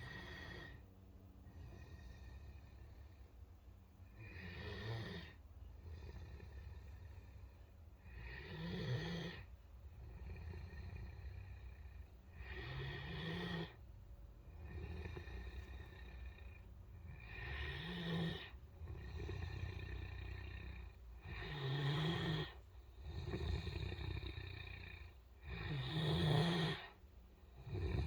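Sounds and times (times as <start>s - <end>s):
dog snoring: 0.0s - 28.0s.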